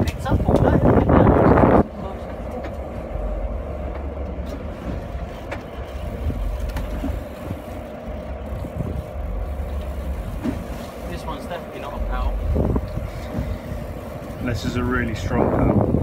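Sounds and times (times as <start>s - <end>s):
boat engine humming: 0.0s - 16.0s
wind rumbling on microphone: 0.0s - 16.0s.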